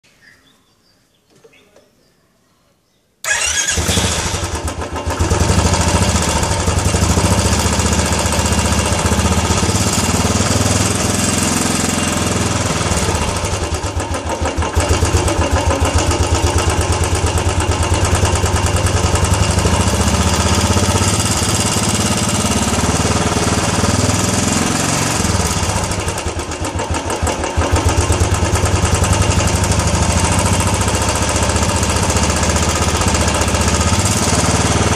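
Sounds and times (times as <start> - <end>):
motorcycle engine starting and idling: 3.2 - 34.9.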